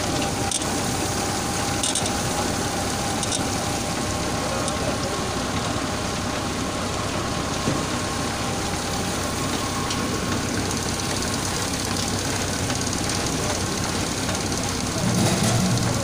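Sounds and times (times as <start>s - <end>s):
faint machine hum: 0.0s - 16.0s
washing machine rollers and water spray: 0.0s - 16.0s.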